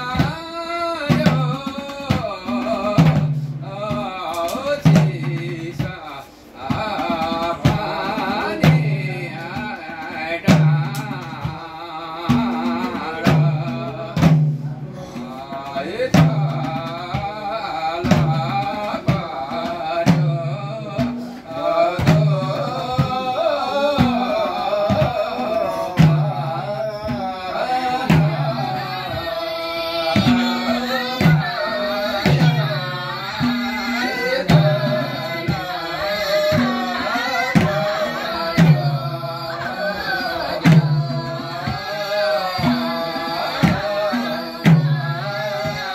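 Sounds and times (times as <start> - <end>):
group singing a chant-like song: 0.0 - 45.9
hand drums playing: 0.0 - 45.9.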